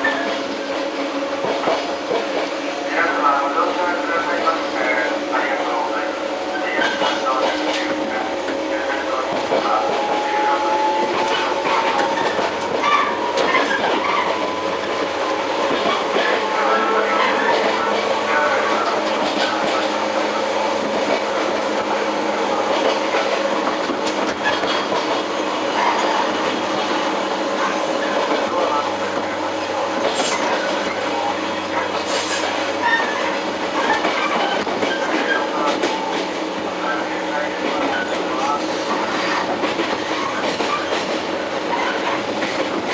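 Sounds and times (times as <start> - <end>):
train rumble: 0.0 - 42.9.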